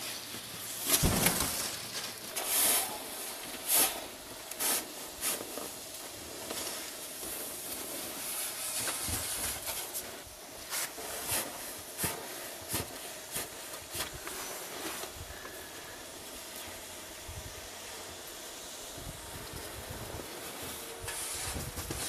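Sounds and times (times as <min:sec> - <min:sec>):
snow pusher scraping snow: 0:00.0 - 0:22.0.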